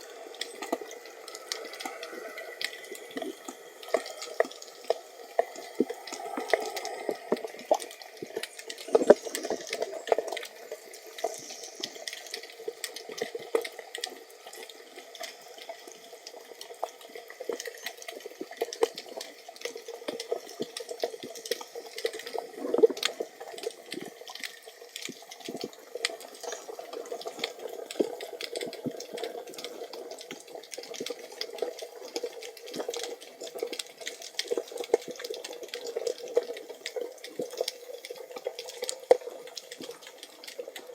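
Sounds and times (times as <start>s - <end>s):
moving water underwater: 0.0s - 40.9s
small sharp clicks and crackles: 0.0s - 40.9s.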